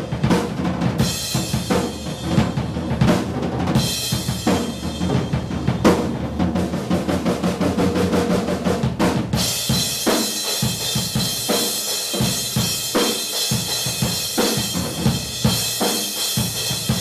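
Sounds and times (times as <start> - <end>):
rock drum beat: 0.0 - 17.0.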